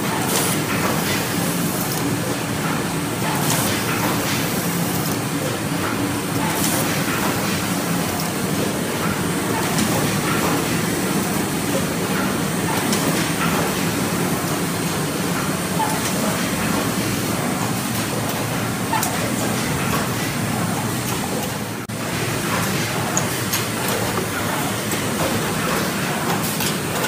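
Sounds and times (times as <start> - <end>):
machine hum and clatter: 0.0 - 27.0.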